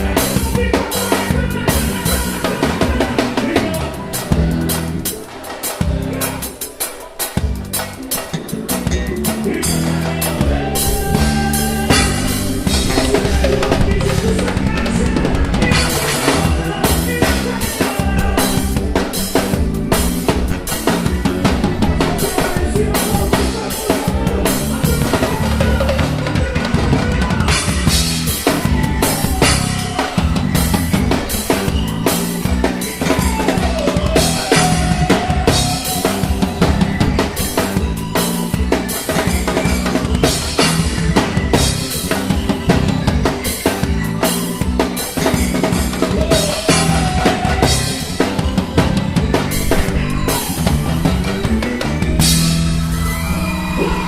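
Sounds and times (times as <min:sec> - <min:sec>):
band music: 0:00.0 - 0:54.0
drum kit kick and snare: 0:00.0 - 0:54.0.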